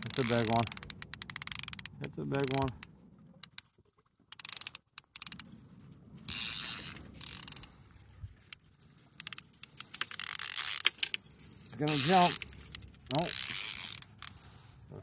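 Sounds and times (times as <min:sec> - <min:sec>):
fishing reel clicking rapidly: 0:00.0 - 0:03.7, 0:04.3 - 0:05.6, 0:06.2 - 0:14.8.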